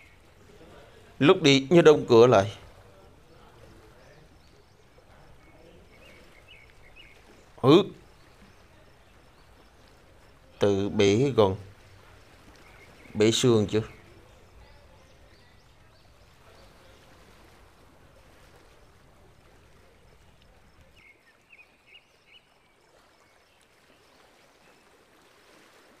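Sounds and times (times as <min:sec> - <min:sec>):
faint background noise: 0:00.0 - 0:26.0.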